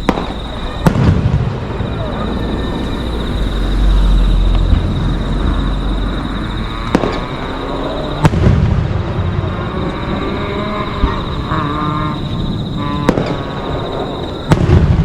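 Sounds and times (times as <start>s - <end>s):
steady high-pitched tone: 0.0s - 14.8s
fireworks booming: 0.0s - 15.0s
fireworks cracks: 0.0s - 15.0s.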